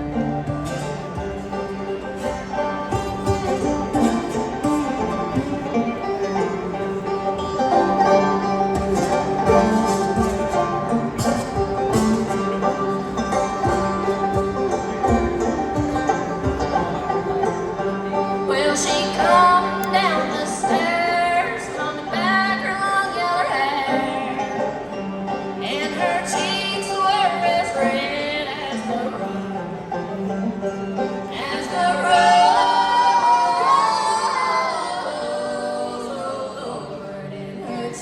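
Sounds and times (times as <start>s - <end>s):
band playing bluegrass: 0.0s - 38.0s
banjo: 0.0s - 38.0s
guitar: 0.0s - 38.0s.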